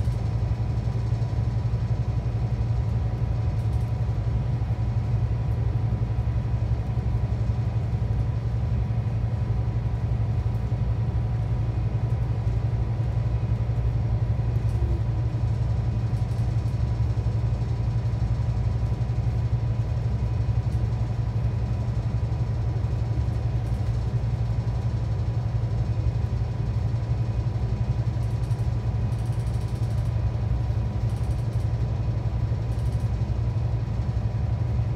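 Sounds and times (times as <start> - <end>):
coach engine drone: 0.0 - 34.9.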